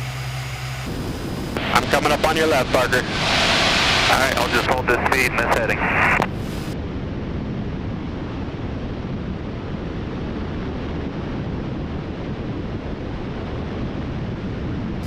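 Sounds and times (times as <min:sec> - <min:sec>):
small plane cabin drone: 0:00.0 - 0:15.0.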